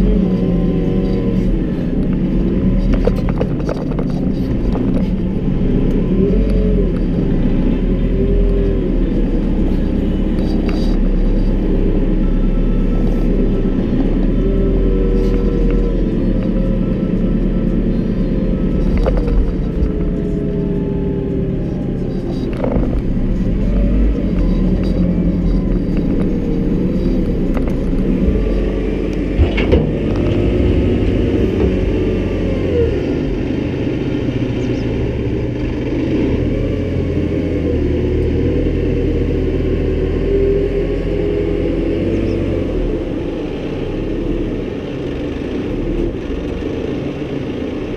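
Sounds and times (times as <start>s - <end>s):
diesel engine running under load: 0.0s - 47.9s.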